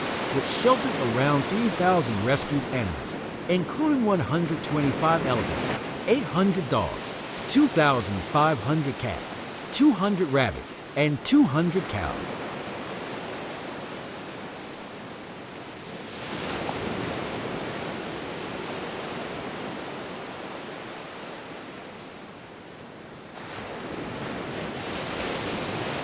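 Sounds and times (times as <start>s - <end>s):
rushing floodwater: 0.0s - 21.6s.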